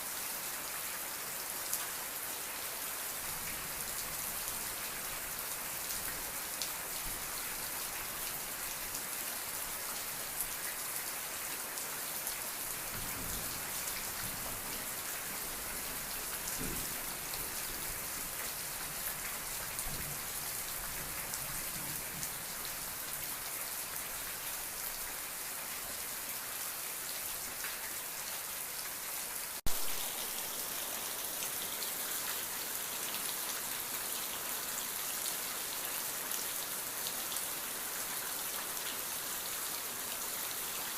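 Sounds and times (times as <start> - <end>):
steady rain patter: 0.0 - 40.9.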